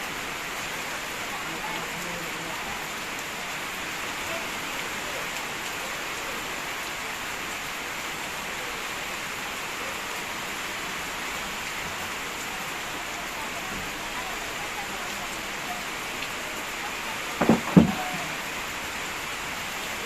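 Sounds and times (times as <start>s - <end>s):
heavy rain on hard surfaces: 0.0s - 20.0s.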